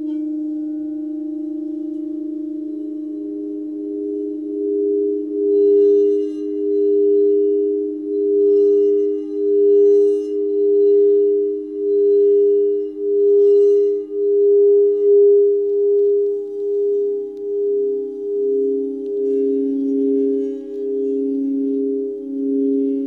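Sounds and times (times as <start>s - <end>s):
crystal singing bowls ringing: 0.0s - 23.0s
lower singing bowl tone: 0.0s - 23.0s.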